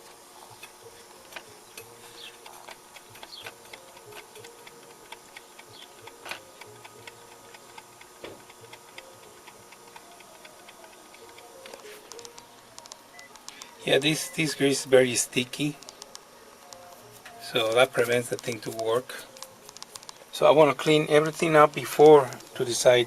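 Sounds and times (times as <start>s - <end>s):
faint steady hum: 0.0s - 23.0s
turntable mechanism clicking: 0.0s - 23.0s.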